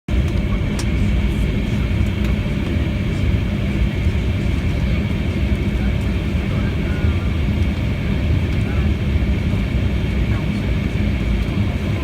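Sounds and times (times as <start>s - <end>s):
airliner cabin rumble: 0.1s - 12.0s
jet engine whine: 0.1s - 12.0s.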